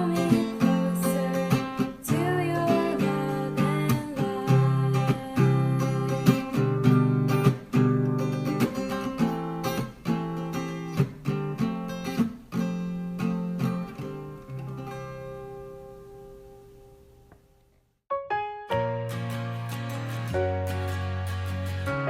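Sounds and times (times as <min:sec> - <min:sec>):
acoustic guitar strumming: 0:00.0 - 0:16.6, 0:18.3 - 0:22.0.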